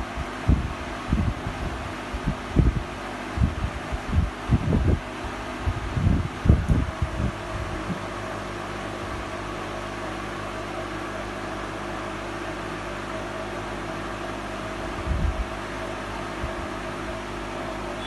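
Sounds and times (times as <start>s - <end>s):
appliance humming and hissing: 0.0s - 18.0s.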